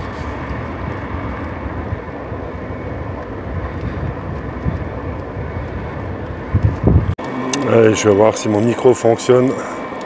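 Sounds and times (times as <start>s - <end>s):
wind buffeting microphone: 0.0s - 8.4s
road noise: 0.0s - 10.0s.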